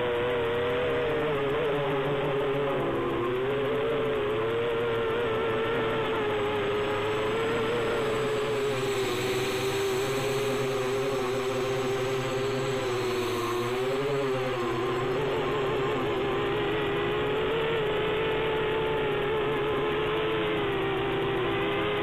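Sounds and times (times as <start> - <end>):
quadcopter propellers whirring: 0.0 - 22.0.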